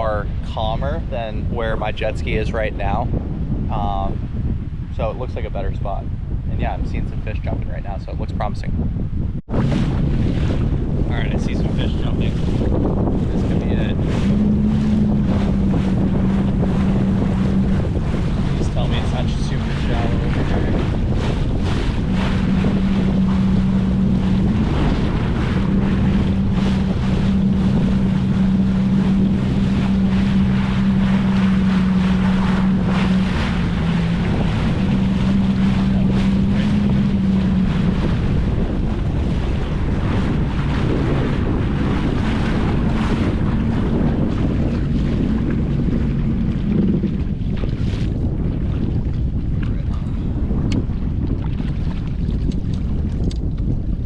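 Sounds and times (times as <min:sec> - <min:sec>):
jet ski engine humming: 0:00.0 - 0:54.0
wind rushing on microphone: 0:00.0 - 0:54.0.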